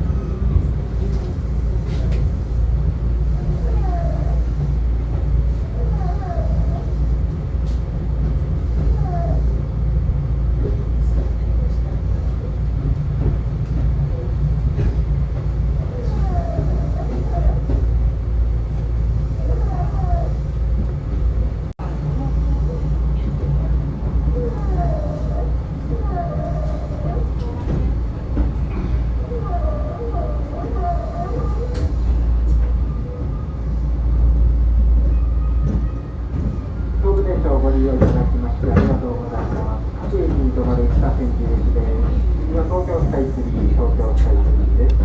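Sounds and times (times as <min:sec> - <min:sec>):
train wheels and motors rumbling: 0:00.0 - 0:45.0.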